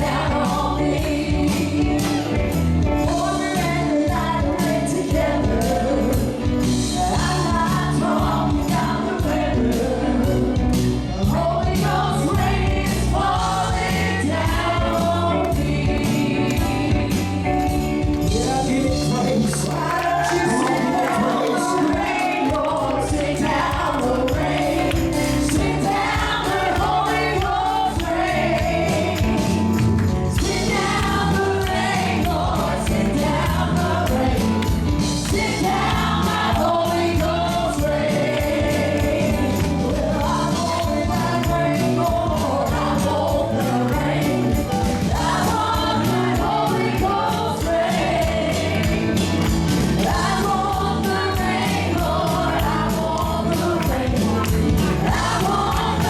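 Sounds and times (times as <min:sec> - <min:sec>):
congregation singing: 0:00.0 - 0:56.0
live band with steady beat: 0:00.0 - 0:56.0.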